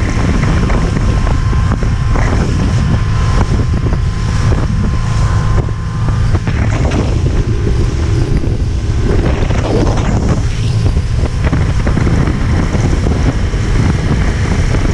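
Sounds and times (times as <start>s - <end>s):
boat motor: 0.0s - 14.9s
wind buffeting microphone: 0.0s - 14.9s.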